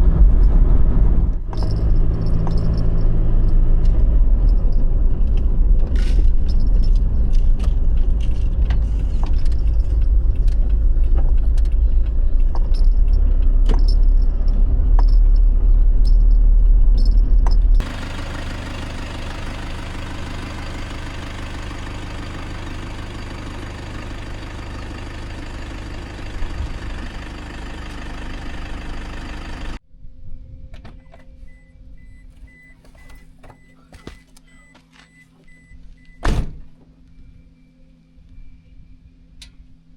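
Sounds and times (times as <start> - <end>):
deep steady rumble: 0.0 - 32.7.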